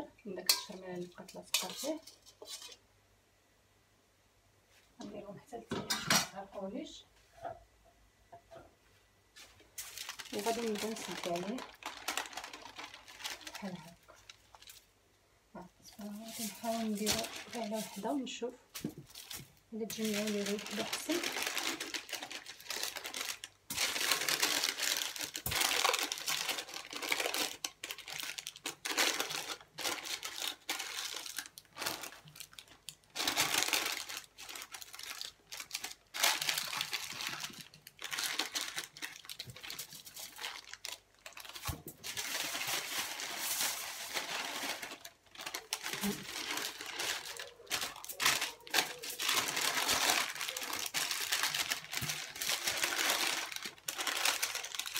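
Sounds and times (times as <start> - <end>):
parchment paper crinkling: 9.4 - 14.9, 15.9 - 54.9.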